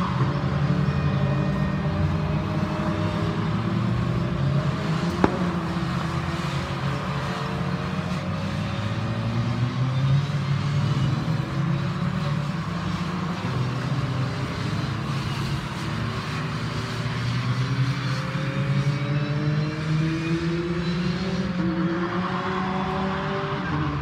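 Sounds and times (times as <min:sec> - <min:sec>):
race car engines: 0:00.0 - 0:24.0
race cars accelerating: 0:00.0 - 0:24.0.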